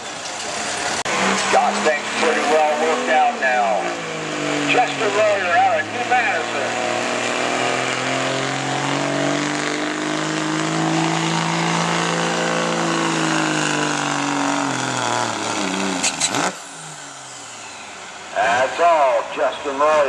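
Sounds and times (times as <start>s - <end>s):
engine crackles: 0.0s - 20.0s
pickup truck engine running hard: 0.0s - 20.0s.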